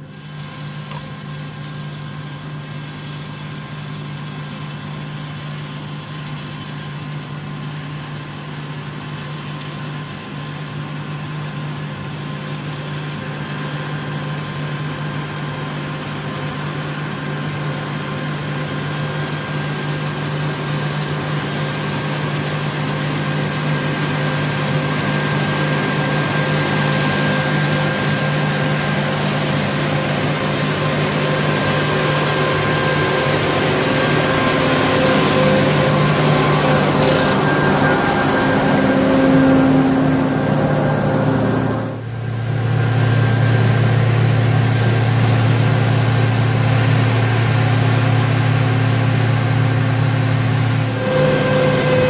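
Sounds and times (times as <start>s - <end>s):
cotton picker machine drone: 0.0s - 52.0s.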